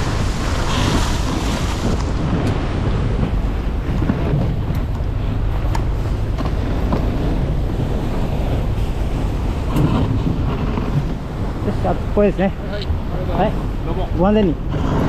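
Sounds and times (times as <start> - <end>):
boat engine running: 0.0 - 15.0
waves washing against rocks: 0.0 - 15.0
wind buffeting microphone: 0.0 - 15.0.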